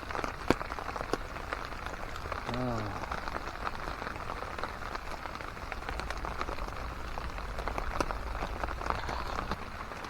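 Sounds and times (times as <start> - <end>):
raindrops ticking on a tarp: 0.0 - 10.0
steady rain: 0.0 - 10.0.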